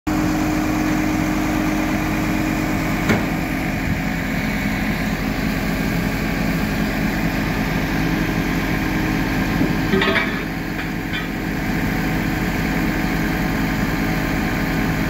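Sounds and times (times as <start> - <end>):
truck diesel engine running: 0.1 - 15.0.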